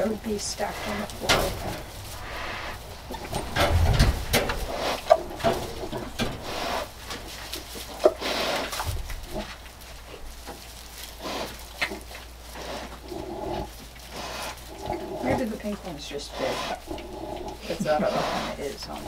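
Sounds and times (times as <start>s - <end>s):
pigs grunting and squeaking: 0.0s - 19.0s.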